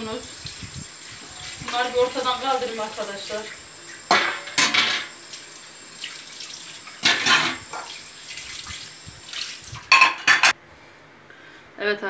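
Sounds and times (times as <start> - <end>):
kitchen tap running: 0.0 - 10.5.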